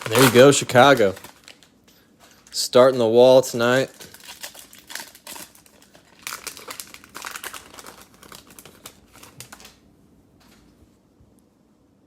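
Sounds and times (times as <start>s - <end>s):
cellophane wrapper crinkling: 0.0s - 9.9s.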